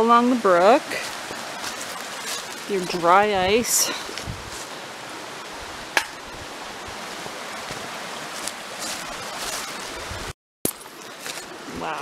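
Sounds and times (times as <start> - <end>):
brook running: 0.0 - 12.0.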